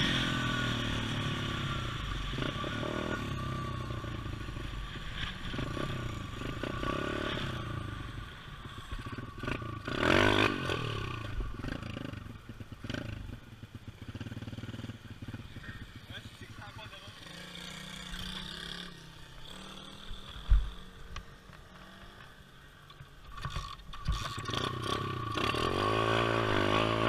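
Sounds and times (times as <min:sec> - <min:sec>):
motorbike engine revving: 0:00.0 - 0:22.3, 0:23.4 - 0:27.0.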